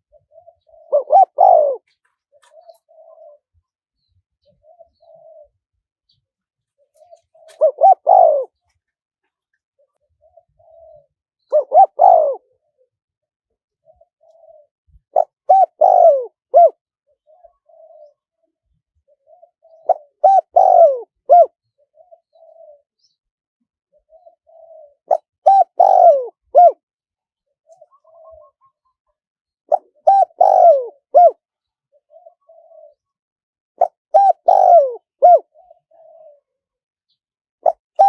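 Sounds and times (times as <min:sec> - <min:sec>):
dove cooing: 0:00.0 - 0:03.7, 0:04.4 - 0:08.8, 0:09.8 - 0:13.0, 0:13.7 - 0:23.2, 0:23.9 - 0:26.8, 0:27.4 - 0:33.2, 0:33.8 - 0:36.8, 0:37.6 - 0:38.0.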